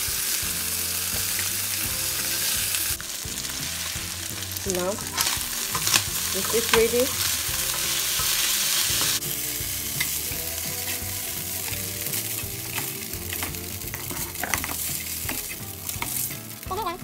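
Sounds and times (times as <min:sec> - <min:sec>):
shrimp sizzling in oil: 0:00.0 - 0:17.0
spatula scraping and knocking pan: 0:01.1 - 0:16.6.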